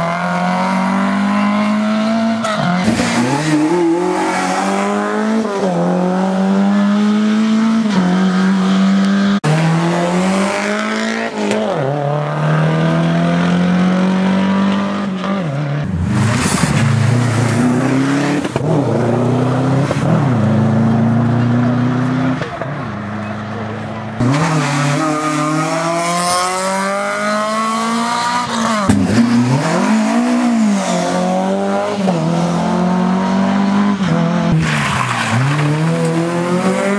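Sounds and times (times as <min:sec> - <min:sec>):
rally car engine revving: 0:00.0 - 0:36.9.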